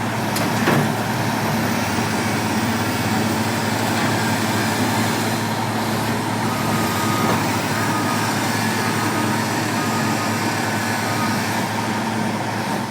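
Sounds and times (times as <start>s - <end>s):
heavy machinery engine humming: 0.0s - 12.9s.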